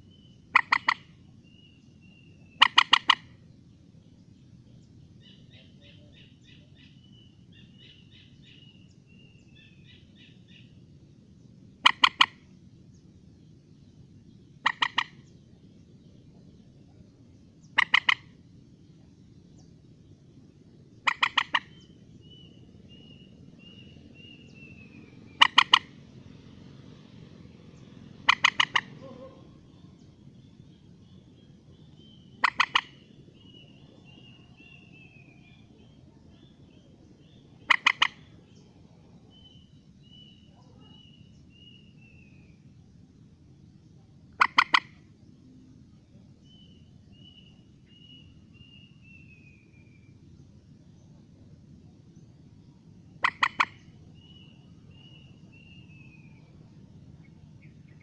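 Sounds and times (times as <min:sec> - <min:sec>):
high bird calls: 0:00.0 - 0:03.5, 0:04.7 - 0:10.9, 0:11.7 - 0:13.1, 0:14.1 - 0:42.7, 0:44.3 - 0:45.1, 0:46.4 - 0:50.2, 0:53.0 - 0:58.0
moorhen calling: 0:00.0 - 0:42.8, 0:44.0 - 0:50.2, 0:52.5 - 0:58.0
low background hiss: 0:00.0 - 0:58.0.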